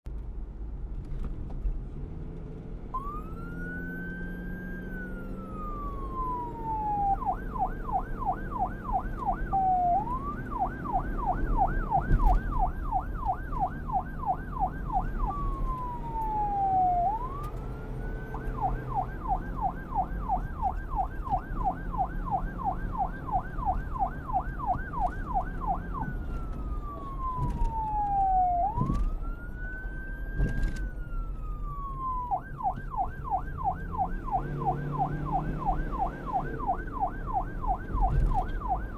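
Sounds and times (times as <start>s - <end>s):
electronic police siren: 2.9s - 38.9s.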